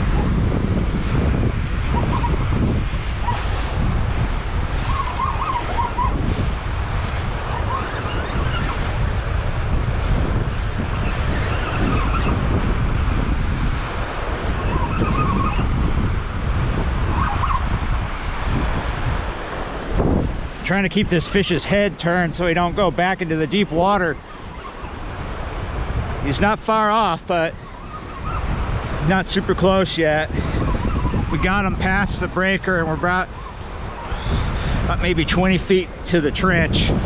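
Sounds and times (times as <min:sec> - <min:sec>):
surf breaking on beach: 0:00.0 - 0:37.0
wind buffeting microphone: 0:00.0 - 0:37.0.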